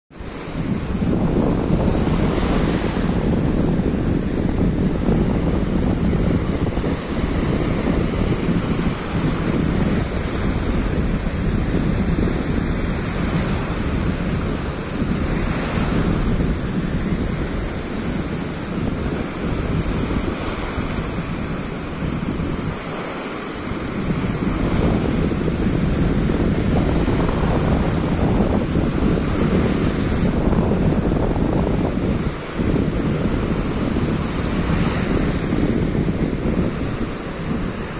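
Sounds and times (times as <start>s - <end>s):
small waves breaking on beach: 0.1s - 37.9s
wind buffeting microphone: 0.1s - 37.9s.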